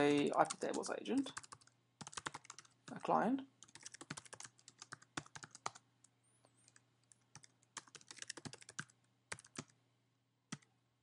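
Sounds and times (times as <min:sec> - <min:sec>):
keyboard typing: 0:00.0 - 0:05.8, 0:06.6 - 0:09.8, 0:10.5 - 0:10.7.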